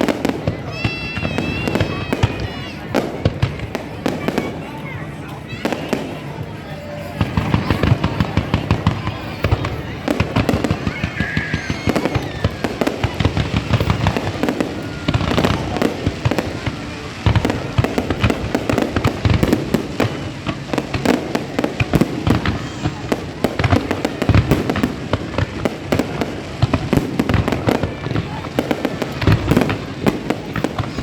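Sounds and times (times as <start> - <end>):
fireworks booms: 0.0 - 31.0
fireworks crackling bangs: 0.0 - 31.0.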